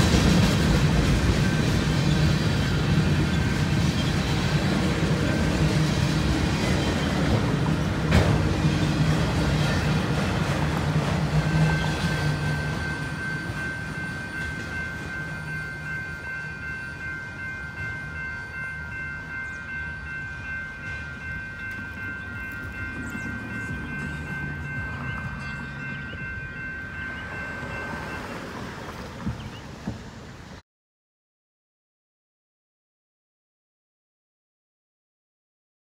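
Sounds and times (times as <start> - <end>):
train wheels rumbling on rails: 0.0 - 30.6.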